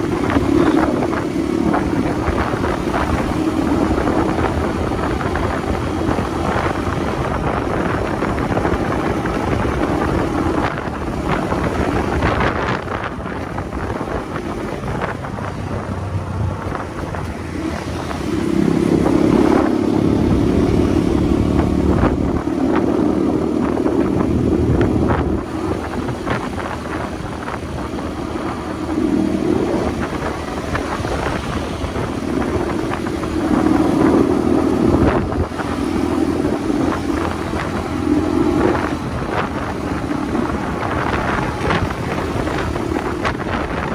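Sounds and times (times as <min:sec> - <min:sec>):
motorcycle engine running: 0:00.0 - 0:43.9
wind and road noise: 0:00.0 - 0:43.9.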